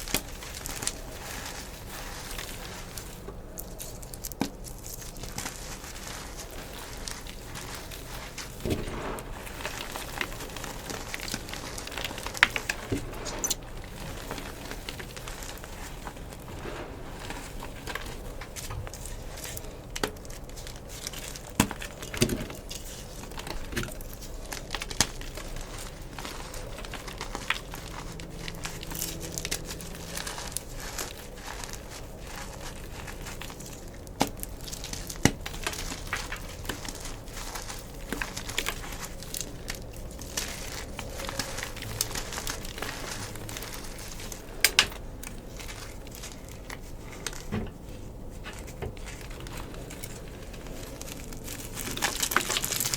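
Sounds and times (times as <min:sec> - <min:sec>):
chalk being crushed: 0:00.0 - 0:52.9.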